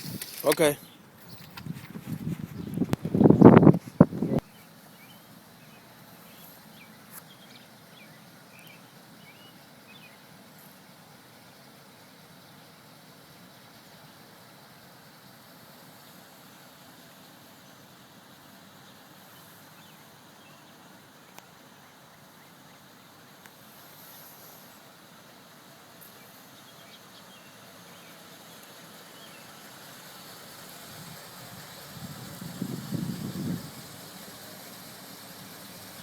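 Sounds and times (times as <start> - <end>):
faint outdoor hiss: 0.0 - 36.0.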